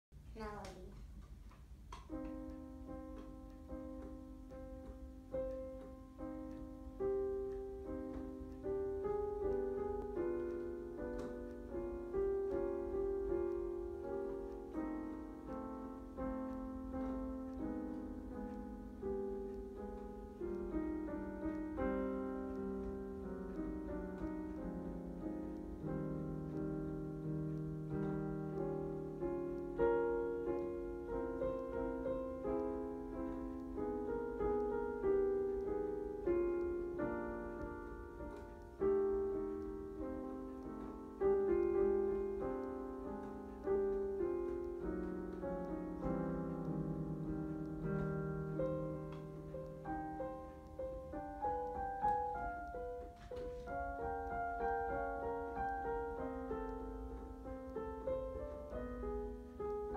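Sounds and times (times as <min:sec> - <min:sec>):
digital piano melody: 0:00.2 - 0:59.9.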